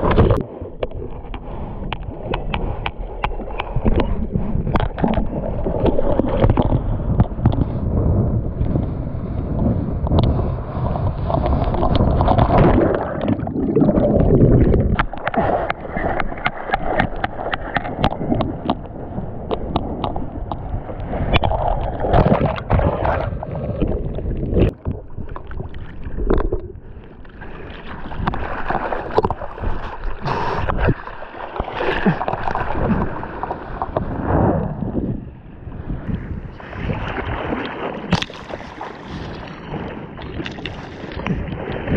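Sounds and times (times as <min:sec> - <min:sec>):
water sloshing and splashing: 0:00.0 - 0:08.0, 0:10.0 - 0:41.9
wind buffeting microphone: 0:00.0 - 0:27.0, 0:31.7 - 0:41.9.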